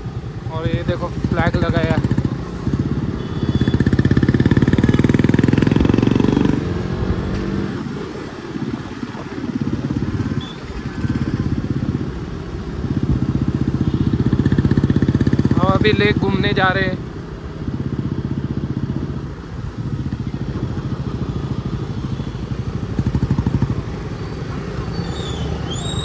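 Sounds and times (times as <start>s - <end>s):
motorcycle engine running: 0.0s - 7.8s, 8.6s - 26.0s.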